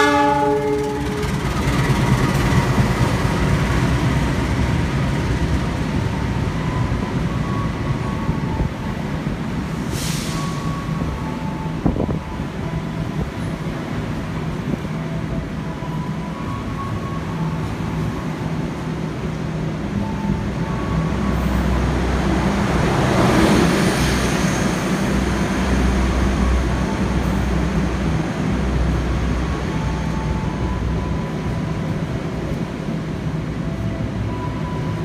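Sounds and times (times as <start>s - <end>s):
train running hum: 0.0s - 35.0s.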